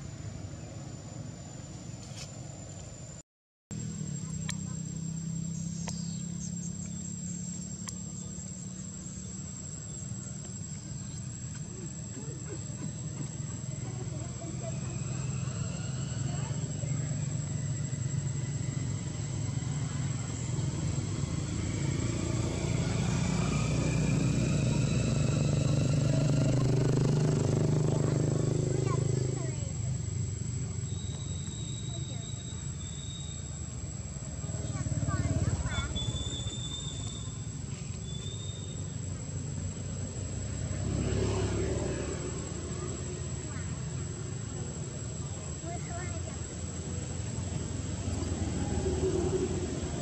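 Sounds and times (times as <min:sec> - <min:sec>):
vehicle engine running: 0:03.7 - 0:50.0.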